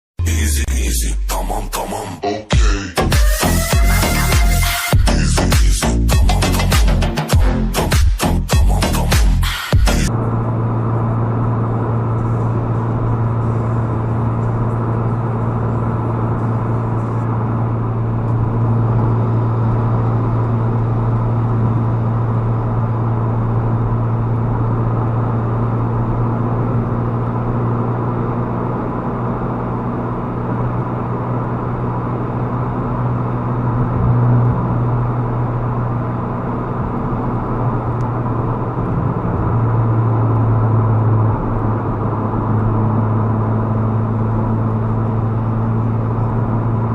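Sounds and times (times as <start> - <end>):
vehicle engine and road drone: 0.2 - 46.9.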